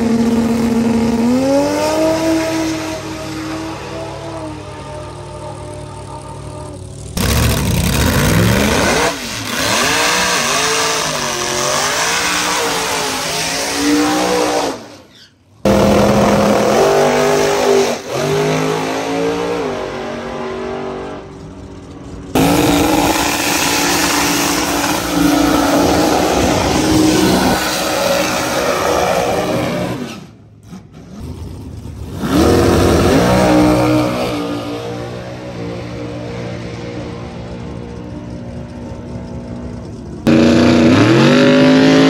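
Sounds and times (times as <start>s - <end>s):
race car engines revving: 0.0s - 42.0s.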